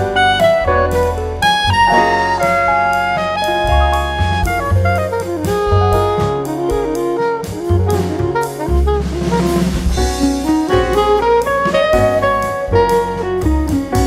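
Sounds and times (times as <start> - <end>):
jazz music: 0.0 - 14.0.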